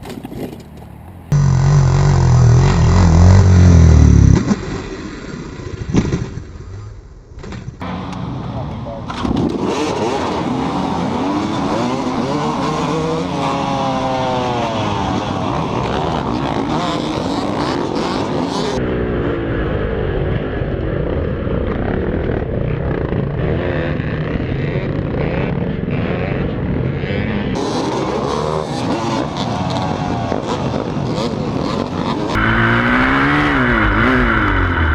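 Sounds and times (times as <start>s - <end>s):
motorcycle engines revving: 0.1s - 34.9s
motorcycles passing: 0.4s - 6.8s, 7.8s - 34.9s.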